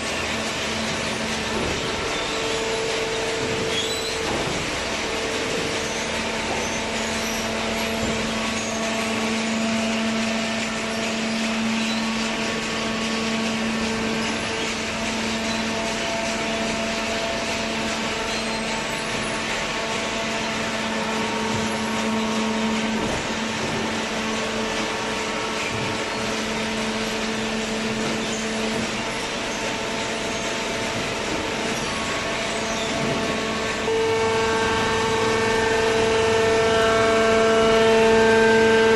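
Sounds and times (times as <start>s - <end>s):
machinery whirring: 0.0s - 38.9s.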